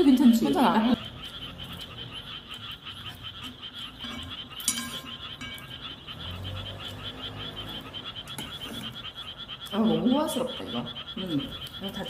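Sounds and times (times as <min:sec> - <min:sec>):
chorus of calling animals: 0:00.0 - 0:12.0.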